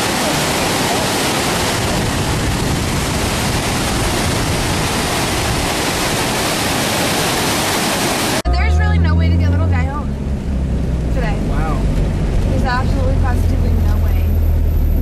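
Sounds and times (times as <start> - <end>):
water rushing: 0.0 - 14.8.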